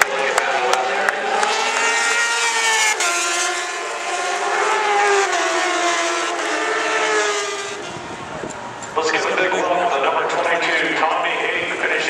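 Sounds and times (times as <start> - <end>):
racing engines passing: 0.0 - 12.0.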